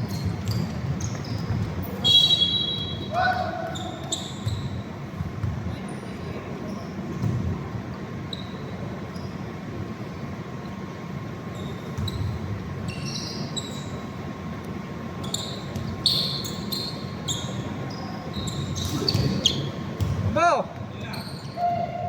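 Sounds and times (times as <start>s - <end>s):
shoes squeaking on hardwood court: 0.0s - 9.6s, 11.4s - 14.2s, 15.1s - 22.0s
rumble of indoor hall: 0.0s - 22.0s.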